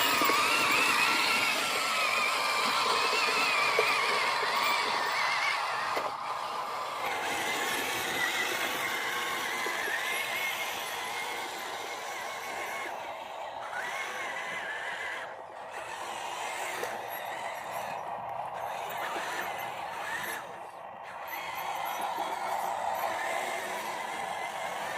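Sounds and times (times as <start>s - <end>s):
small electric motors whining: 0.0s - 24.9s.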